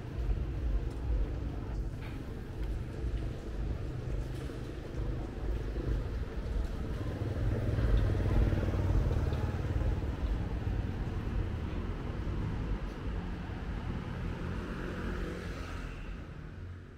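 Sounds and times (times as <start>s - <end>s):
street traffic rumble: 0.0s - 16.9s.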